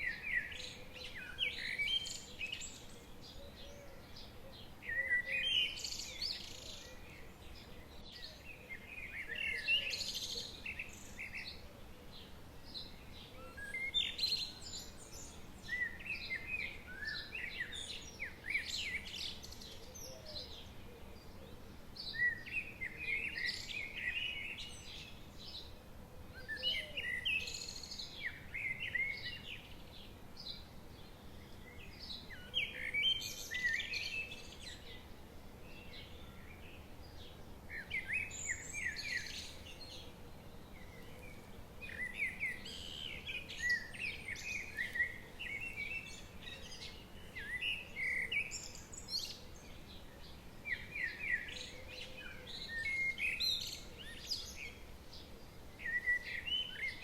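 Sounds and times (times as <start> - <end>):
faint steady hiss: 0.0 - 57.0
songbirds chirping and trilling: 0.0 - 57.0.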